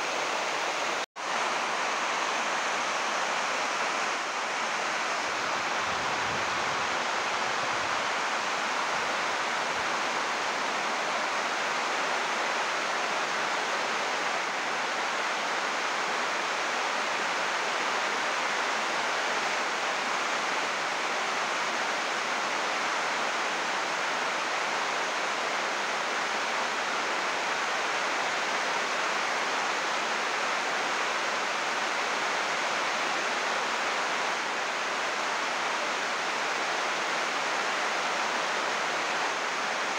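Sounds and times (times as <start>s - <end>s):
heavy rain on plastic roof: 0.0s - 39.9s.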